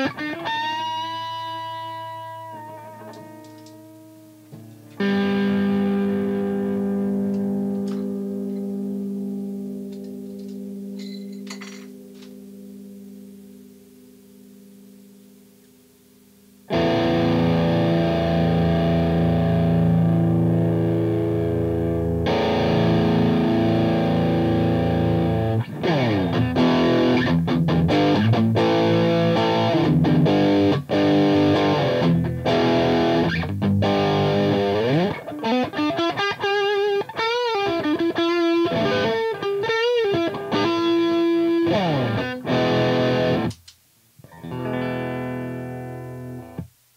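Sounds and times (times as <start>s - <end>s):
overdriven electric guitar: 0.0s - 13.6s, 16.6s - 46.7s.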